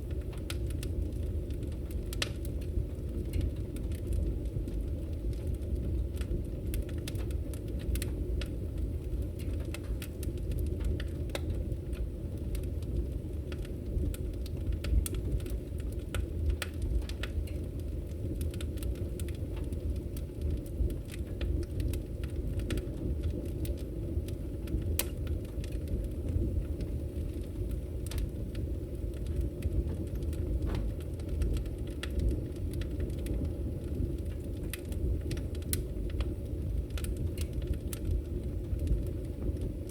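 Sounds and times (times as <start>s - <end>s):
fire crackling and popping: 0.0s - 39.9s
fire rumbling in a fireplace: 0.0s - 39.9s.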